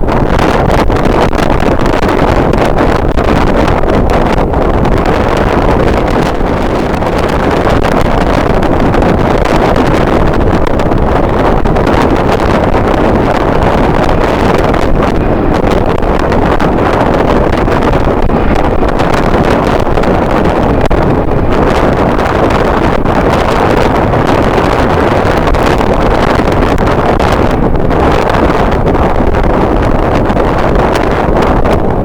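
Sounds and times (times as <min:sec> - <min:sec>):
wind blowing across microphone: 0:00.0 - 0:32.0.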